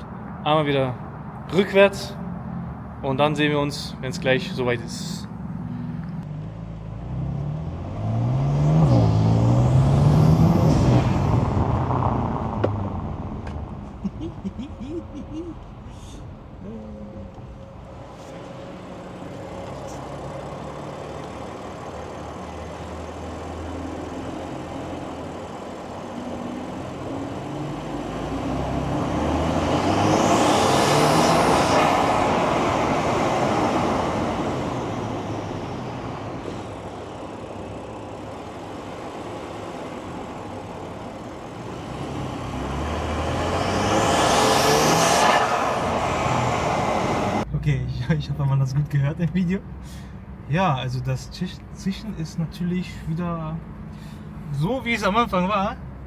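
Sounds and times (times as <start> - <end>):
car engine driving past: 0.0 - 47.8.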